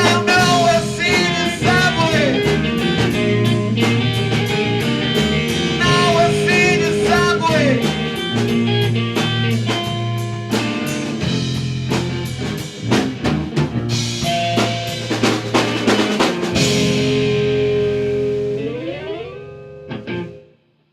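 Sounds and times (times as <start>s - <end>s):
rock band playing: 0.0s - 20.5s.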